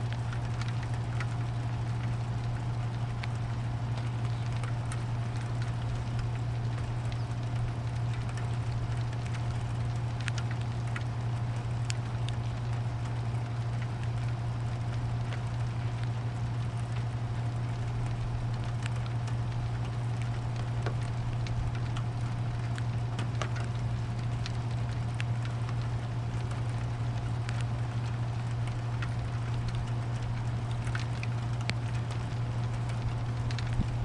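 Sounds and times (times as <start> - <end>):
constant low hum: 0.0 - 34.0
steady rain: 0.0 - 34.0.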